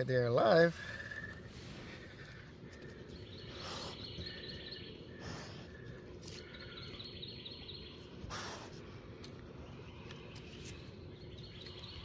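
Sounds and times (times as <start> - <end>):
birds chirping: 0.0 - 12.0
outdoor background hiss: 0.0 - 12.0.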